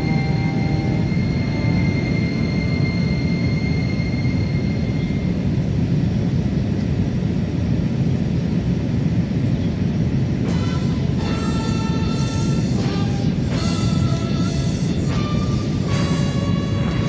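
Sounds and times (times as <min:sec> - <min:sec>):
airplane cabin engine rumble: 0:00.0 - 0:17.0
faint high whine: 0:00.0 - 0:17.0.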